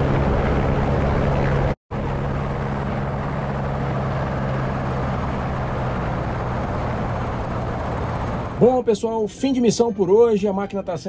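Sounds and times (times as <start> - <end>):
steady rushing noise: 0.0 - 9.6
helicopter hum: 0.0 - 11.0.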